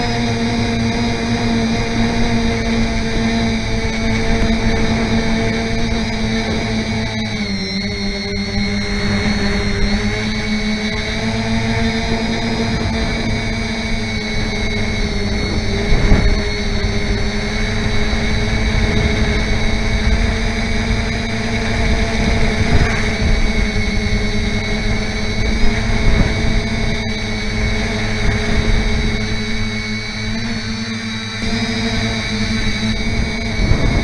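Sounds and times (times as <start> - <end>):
quadcopter motors whining: 0.0 - 34.0
wind buffeting microphone: 0.0 - 34.0.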